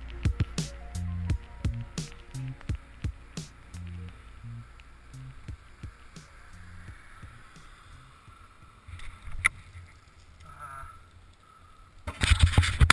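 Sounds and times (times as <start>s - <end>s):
bicycle rolling on paved path: 0.0s - 12.5s
faint wind: 0.0s - 12.9s.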